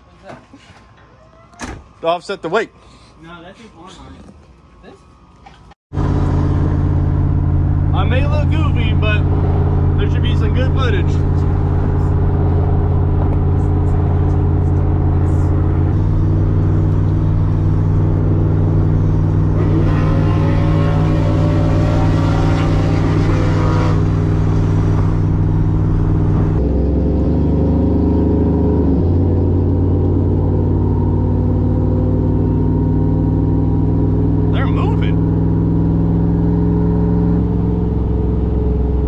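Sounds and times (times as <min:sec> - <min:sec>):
engine and exhaust droning: 0:02.0 - 0:39.0.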